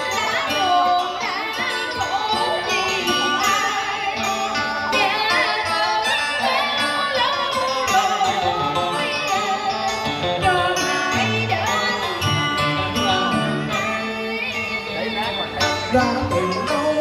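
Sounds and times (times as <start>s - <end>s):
instrumental accompaniment: 0.0s - 17.0s
person singing with wavering pitch: 0.0s - 17.0s.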